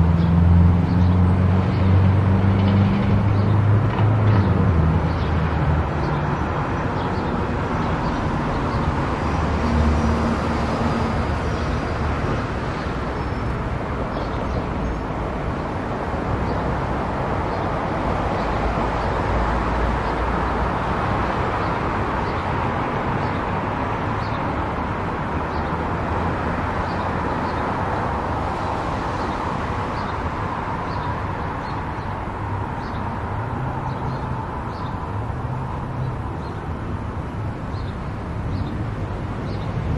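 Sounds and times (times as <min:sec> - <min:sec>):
car driving at highway speed: 0:00.0 - 0:39.9.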